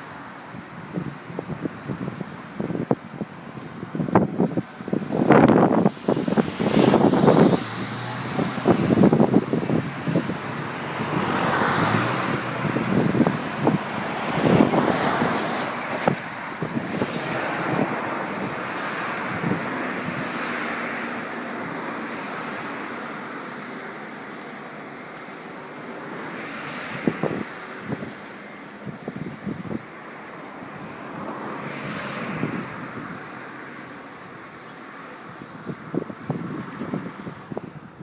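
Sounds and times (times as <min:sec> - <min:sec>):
strong wind buffeting microphone: 0:00.0 - 0:24.0, 0:24.6 - 0:38.0.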